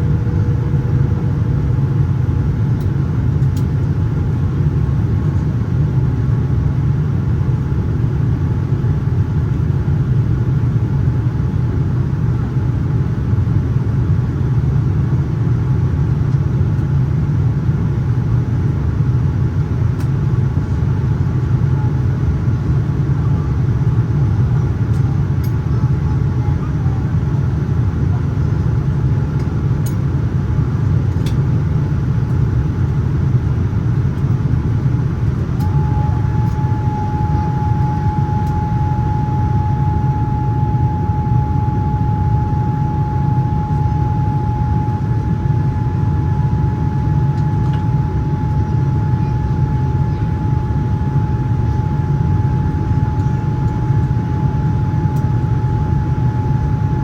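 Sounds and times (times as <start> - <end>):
airliner cabin rumble: 0.0 - 57.0
faint steady hum: 0.0 - 57.0.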